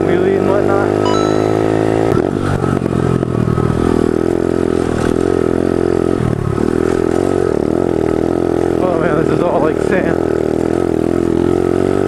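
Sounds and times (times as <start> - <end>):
motorbike engine under throttle: 1.6 - 12.0.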